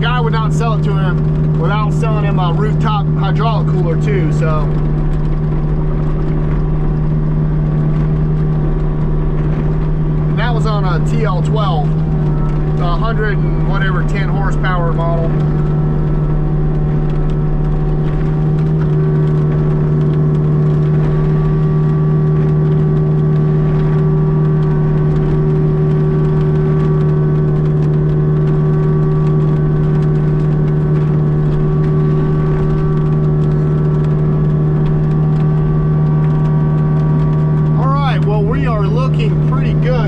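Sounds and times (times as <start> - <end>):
diesel engine running at high revs: 0.0 - 40.0.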